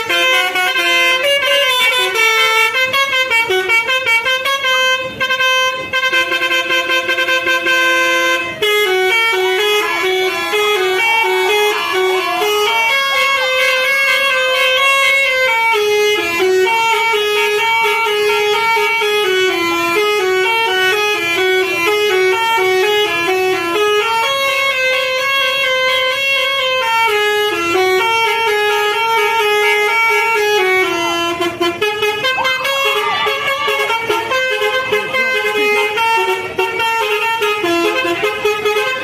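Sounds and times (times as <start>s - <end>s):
bus musical horn melody: 0.0s - 39.0s.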